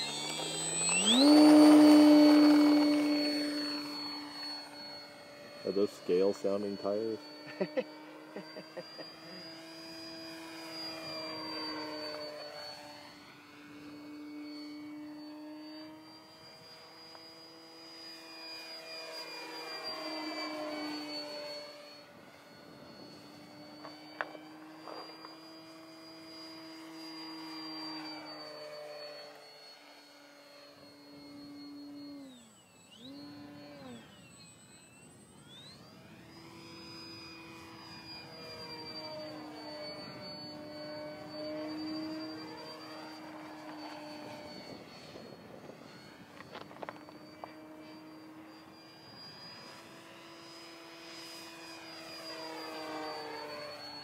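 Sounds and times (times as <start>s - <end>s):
model plane motor buzzing: 0.0s - 54.0s.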